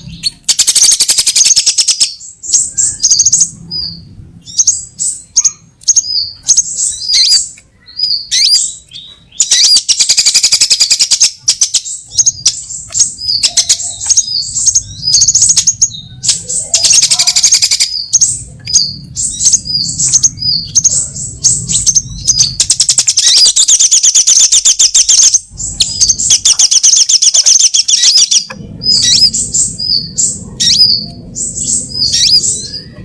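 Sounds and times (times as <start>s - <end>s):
fast dense bird trill: 0.0s - 33.0s
sunbirds chipping and whistling: 0.0s - 33.0s.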